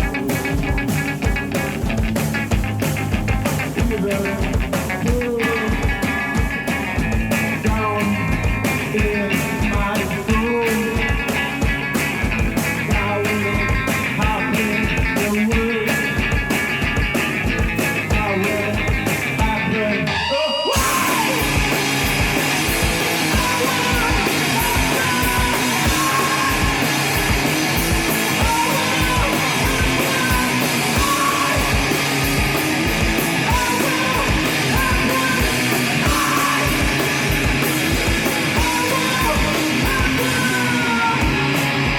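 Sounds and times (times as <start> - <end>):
live punk rock band: 0.0 - 41.9.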